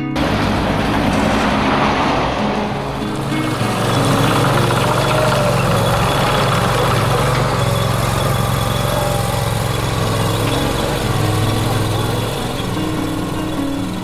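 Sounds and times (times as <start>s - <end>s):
mini loader engine running: 0.0s - 14.0s.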